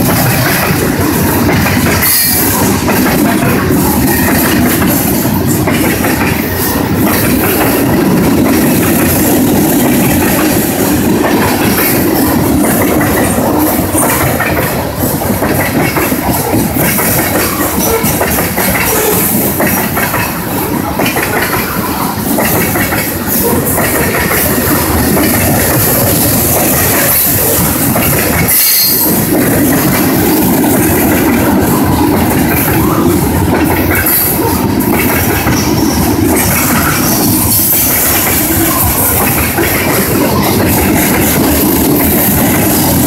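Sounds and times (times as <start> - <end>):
freight cars rumbling on rails: 0.0 - 43.0.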